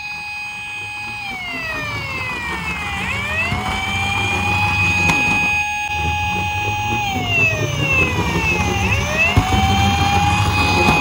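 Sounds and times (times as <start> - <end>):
toy siren wailing: 0.0 - 11.0.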